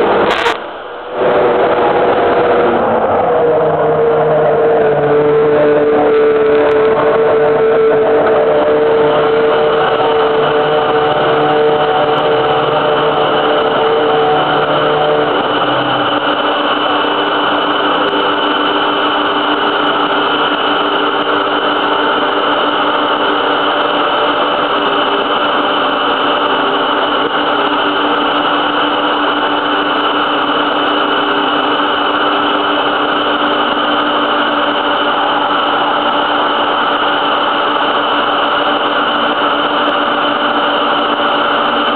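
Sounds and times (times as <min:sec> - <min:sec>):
racing car engine idling: 0:00.0 - 0:41.9.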